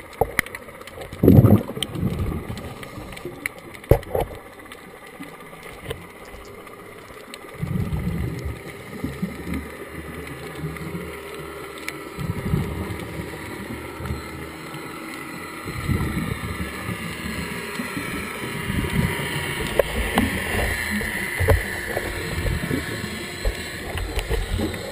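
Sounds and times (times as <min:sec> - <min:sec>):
steady underwater hiss: 0:00.0 - 0:24.9
underwater exhaled bubbles: 0:00.0 - 0:24.9.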